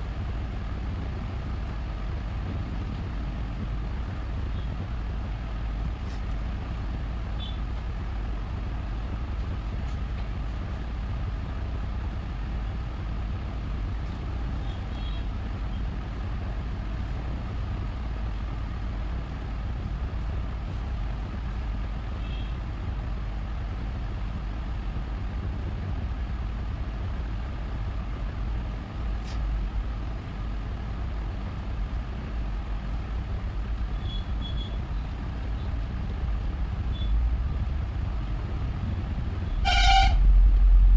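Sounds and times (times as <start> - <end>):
low rumbling background noise: 0.0 - 40.9.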